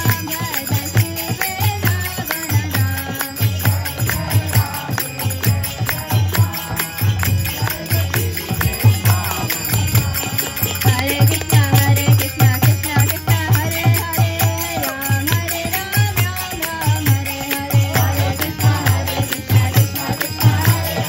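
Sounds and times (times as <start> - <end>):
hand cymbals jingling: 0.0 - 21.0
hand drum beating: 0.0 - 21.0
harmonium: 0.0 - 21.0
voices singing: 0.0 - 21.0.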